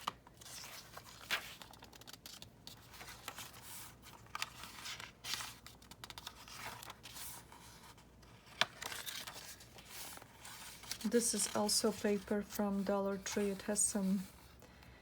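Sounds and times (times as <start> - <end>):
paper pages rustling and crinkling: 0.0 - 14.6.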